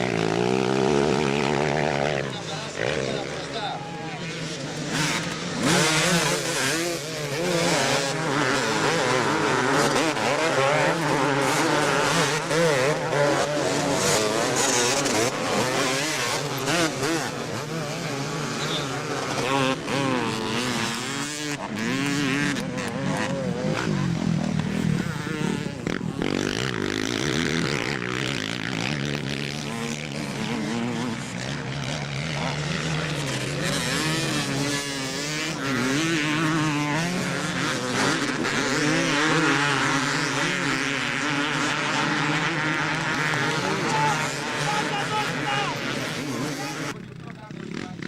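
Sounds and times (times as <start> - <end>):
motocross engines revving: 0.0 - 48.0.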